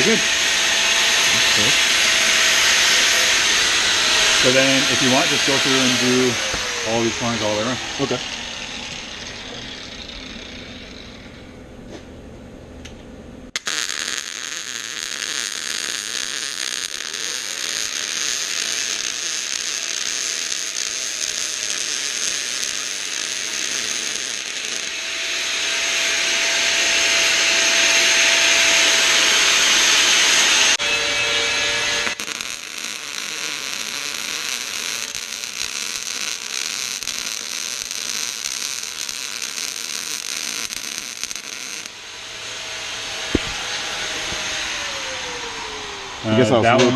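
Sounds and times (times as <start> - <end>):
welding arc crackling and hissing: 0.0 - 11.4, 13.6 - 44.5.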